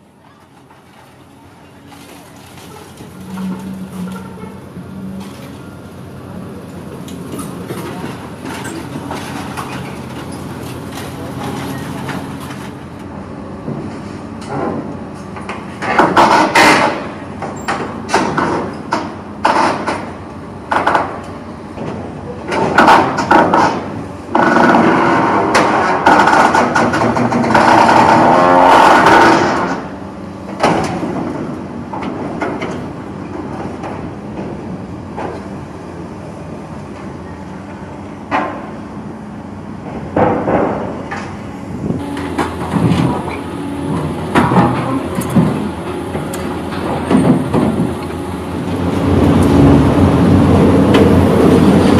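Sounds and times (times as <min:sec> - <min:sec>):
excavator working under load: 0:00.0 - 0:51.9
metal clanking and creaking: 0:00.4 - 0:05.9, 0:06.9 - 0:34.6, 0:39.8 - 0:51.9.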